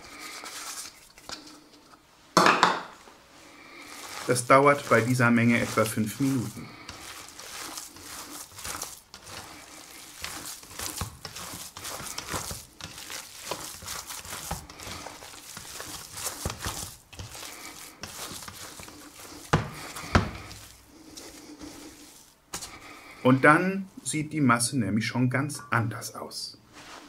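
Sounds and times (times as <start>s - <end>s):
hands kneading wet meat: 0.0s - 1.8s, 3.4s - 24.8s.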